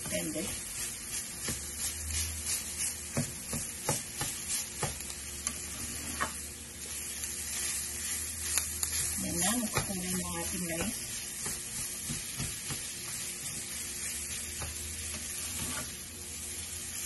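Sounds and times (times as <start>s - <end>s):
spatula scraping a pan: 0.0s - 16.1s
rice sizzling in a pan: 0.0s - 17.0s.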